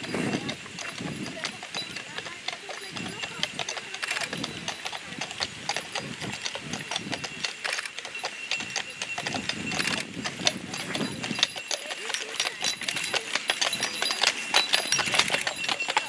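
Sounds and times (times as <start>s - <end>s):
horse hooves clip-clopping: 0.0s - 16.0s.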